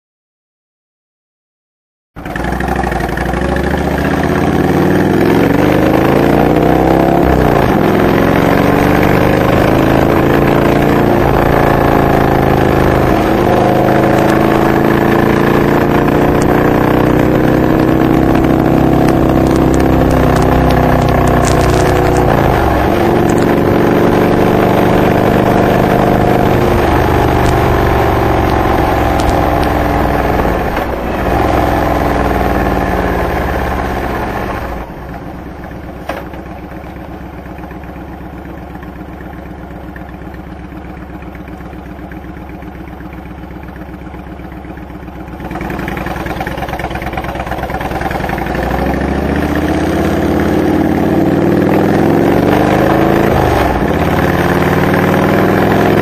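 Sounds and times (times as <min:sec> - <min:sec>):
motorcycle engine accelerating: 0:02.2 - 0:56.0.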